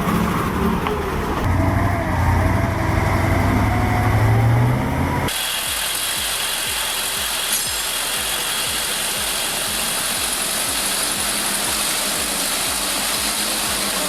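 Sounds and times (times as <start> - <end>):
diesel truck engine throbbing: 0.0 - 14.0.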